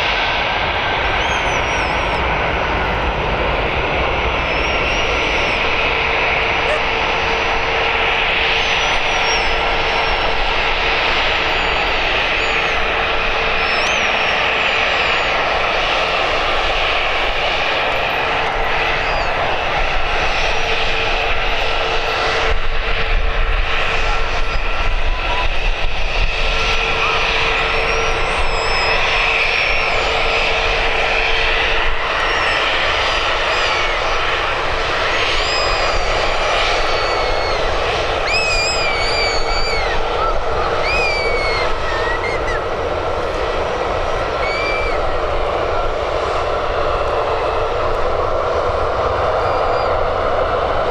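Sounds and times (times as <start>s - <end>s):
jet engine whine: 0.0s - 50.9s
jet engines roaring: 0.0s - 50.9s.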